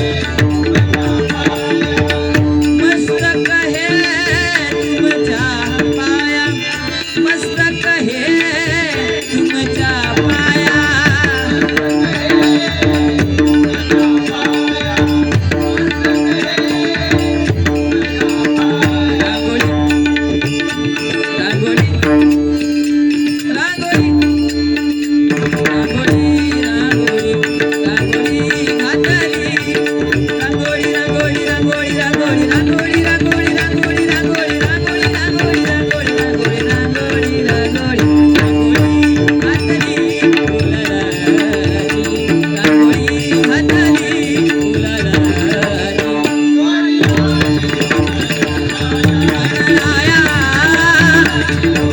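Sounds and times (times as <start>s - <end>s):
tabla playing a rhythm: 0.0s - 51.9s.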